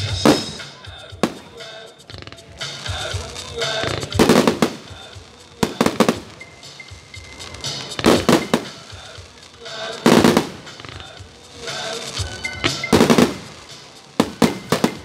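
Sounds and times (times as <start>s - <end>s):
fireworks bangs and crackles: 0.0s - 15.0s
music: 0.0s - 15.0s.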